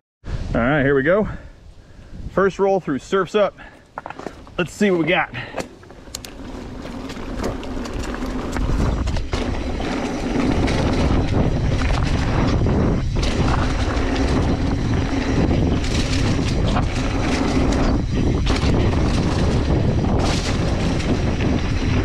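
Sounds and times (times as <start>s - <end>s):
bike tyres rolling on dirt: 0.3s - 22.0s
wind buffeting microphone: 0.3s - 22.0s
bike knocking over bumps: 3.7s - 22.0s.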